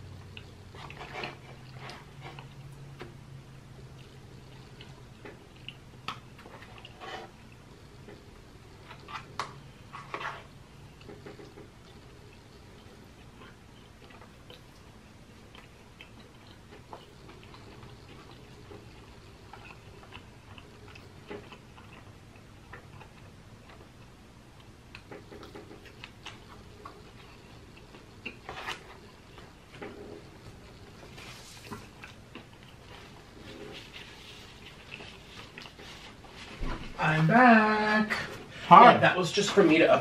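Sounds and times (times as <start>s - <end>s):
chewing: 0.0s - 36.6s.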